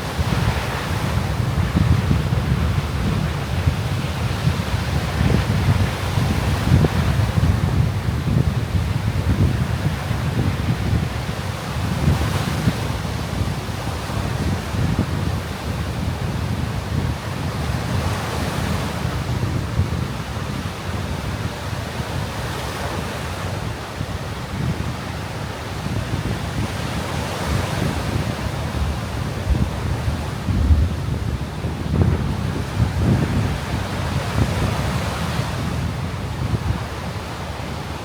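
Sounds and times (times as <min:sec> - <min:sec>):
waves breaking on beach: 0:00.0 - 0:38.0
wind rumbling on microphone: 0:00.0 - 0:38.0.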